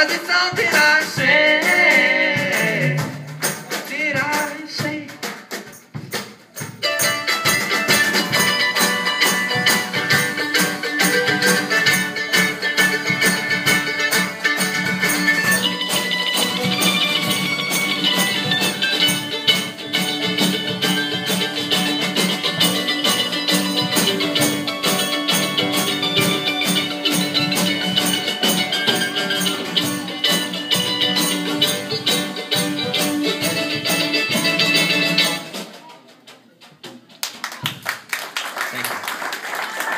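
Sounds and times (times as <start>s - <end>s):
acoustic folk band playing: 0.0s - 37.2s.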